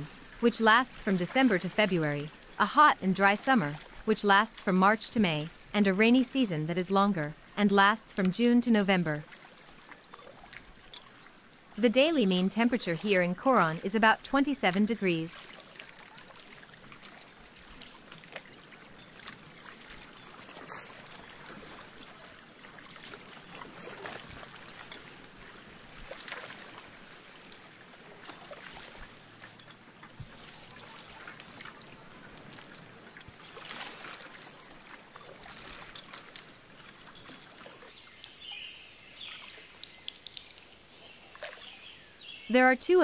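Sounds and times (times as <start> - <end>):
waves lapping against boat hull: 0.0 - 43.0.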